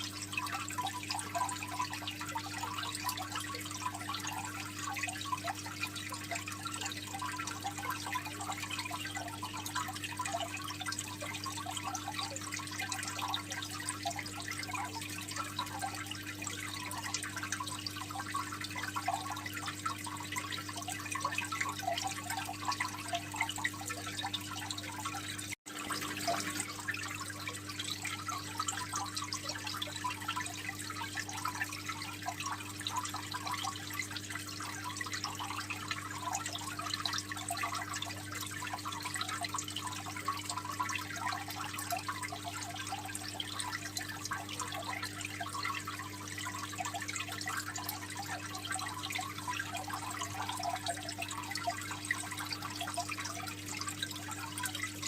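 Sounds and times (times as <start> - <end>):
aquarium water trickling: 0.0 - 55.0.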